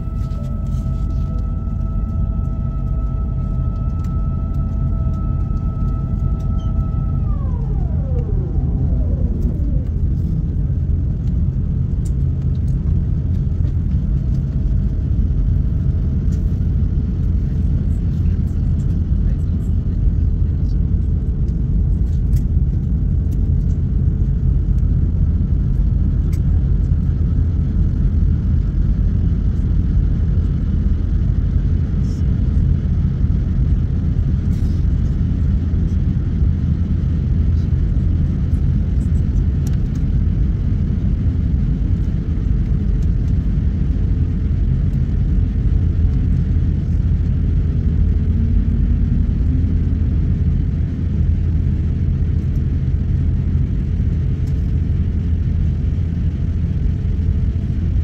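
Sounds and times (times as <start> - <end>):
aircraft cabin rumble: 0.0 - 58.0.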